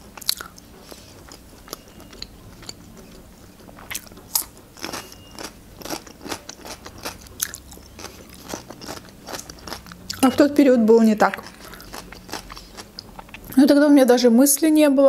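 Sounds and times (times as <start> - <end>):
crisp crunchy chewing: 0.2 - 10.2, 11.3 - 13.6.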